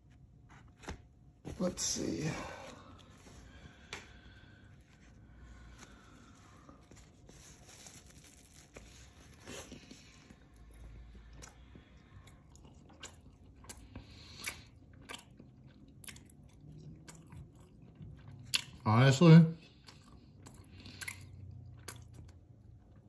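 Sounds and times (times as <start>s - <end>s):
person chewing doughnut: 2.7s - 18.8s, 19.6s - 23.0s.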